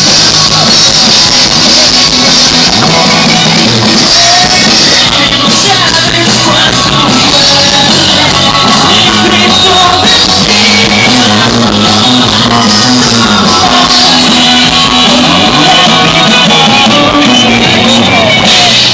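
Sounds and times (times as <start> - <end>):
distorted live rock band: 0.0 - 18.9
person singing or shouting: 0.0 - 18.9.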